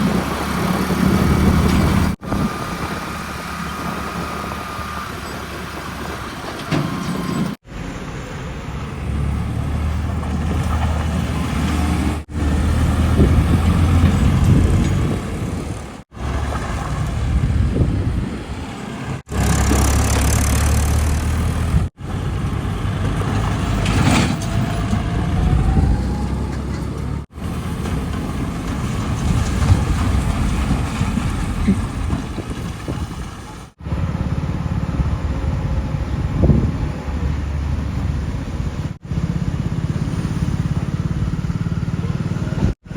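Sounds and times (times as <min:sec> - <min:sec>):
heavy diesel engines rumbling: 0:00.0 - 0:42.9.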